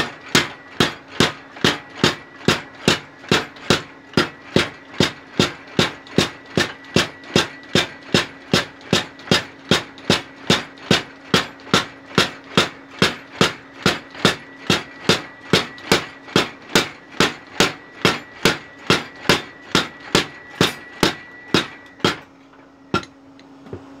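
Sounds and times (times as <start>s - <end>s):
power hammer pounding steel: 0.0s - 22.3s, 22.9s - 23.2s.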